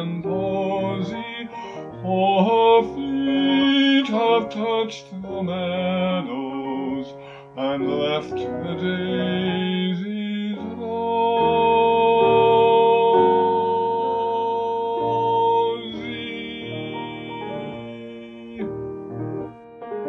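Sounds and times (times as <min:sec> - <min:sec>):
person singing: 0:00.0 - 0:19.1
piano chords: 0:00.0 - 0:20.0.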